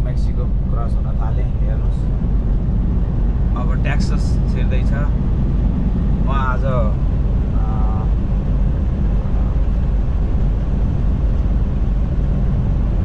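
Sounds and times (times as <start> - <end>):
road and tyre noise: 0.0 - 13.0
truck engine drone: 0.0 - 13.0.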